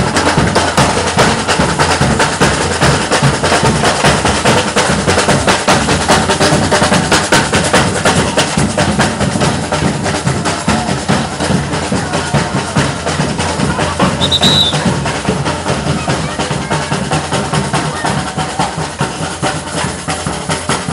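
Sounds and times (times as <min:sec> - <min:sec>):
deep bass drums: 0:00.0 - 0:20.9
samba percussion drumming: 0:00.0 - 0:20.9.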